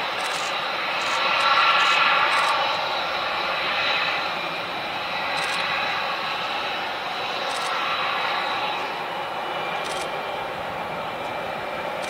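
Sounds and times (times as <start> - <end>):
jet engine rush with high whine: 0.0 - 12.0.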